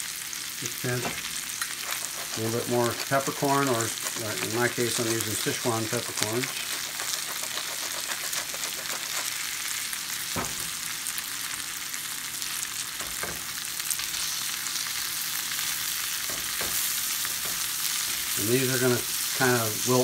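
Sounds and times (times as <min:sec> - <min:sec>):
mushrooms sizzling in oil: 0:00.0 - 0:20.0
utensil stirring pan: 0:00.7 - 0:10.6, 0:13.0 - 0:20.0.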